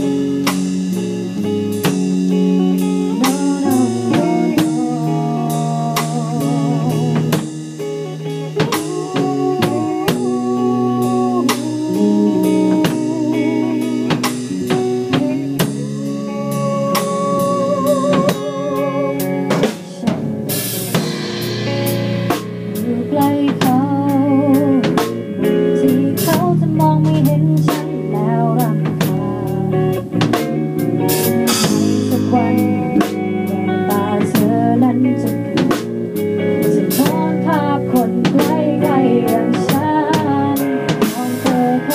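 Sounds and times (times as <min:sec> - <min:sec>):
drum kit playing: 0:00.0 - 0:41.9
sustained guitar notes: 0:00.0 - 0:41.9.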